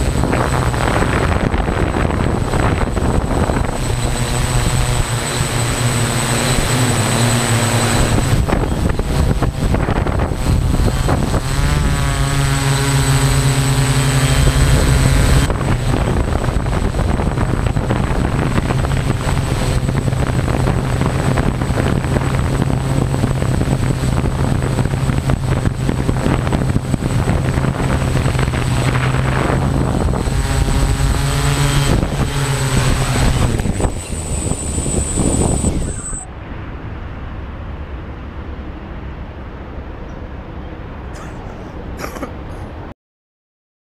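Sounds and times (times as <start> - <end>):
drone propellers buzzing: 0.0 - 39.1.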